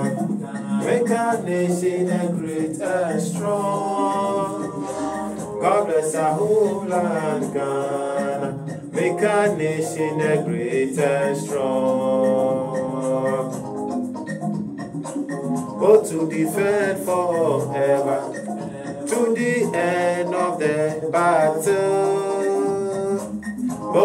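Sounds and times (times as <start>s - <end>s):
man singing: 0.0s - 13.7s, 15.8s - 24.0s.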